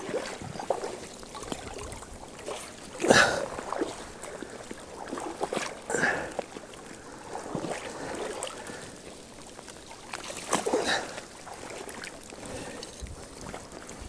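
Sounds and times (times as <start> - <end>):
net dragged through water: 0.0 - 14.0
person wading in river water: 0.0 - 14.0.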